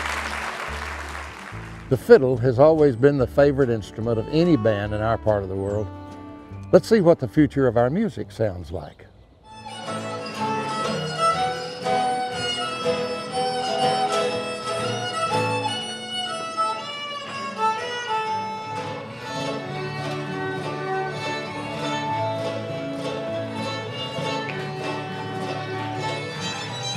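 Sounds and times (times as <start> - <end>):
fiddle playing a tune: 0.0 - 8.5, 9.5 - 26.9.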